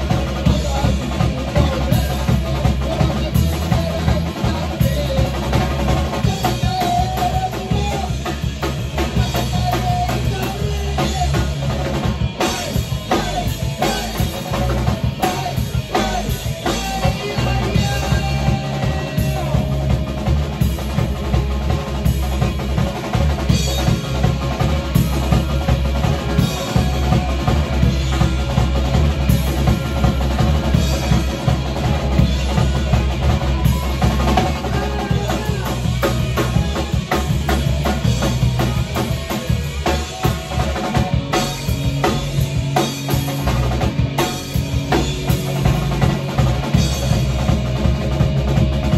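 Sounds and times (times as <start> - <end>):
drum kit bass drum and snare: 0.0 - 48.9
electric guitars and bass: 0.0 - 48.9.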